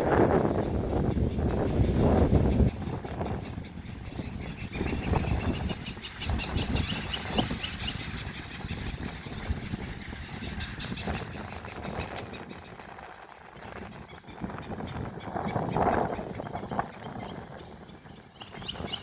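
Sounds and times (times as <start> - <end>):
wind buffeting microphone: 0.0 - 19.0
high chirps of birds or insects: 0.3 - 19.0.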